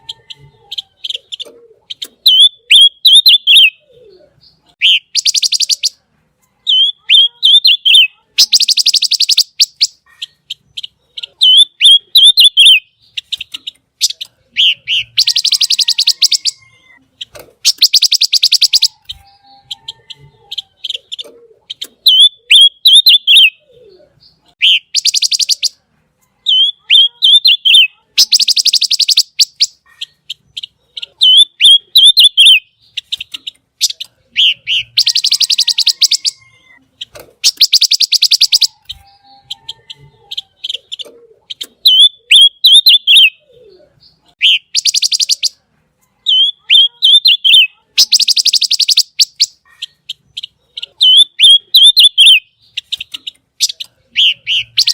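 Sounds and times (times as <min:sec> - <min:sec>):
songbird trilling and whistling: 0:00.0 - 0:06.0, 0:06.6 - 0:25.8, 0:26.4 - 0:45.6, 0:46.2 - 0:54.9.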